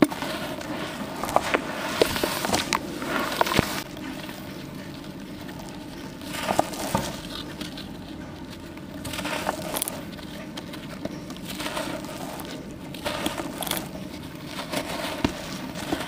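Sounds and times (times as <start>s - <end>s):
wet charcoal crumbling in water: 0.0s - 16.0s.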